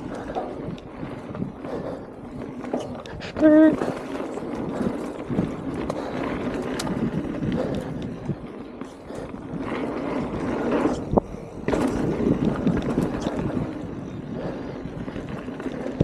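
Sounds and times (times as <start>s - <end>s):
bike tyre rumble: 0.0s - 16.0s.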